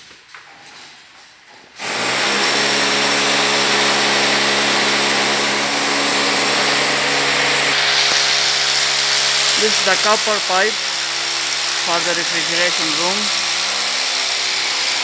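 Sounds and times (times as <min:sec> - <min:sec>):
power tool motor humming: 0:01.8 - 0:15.0.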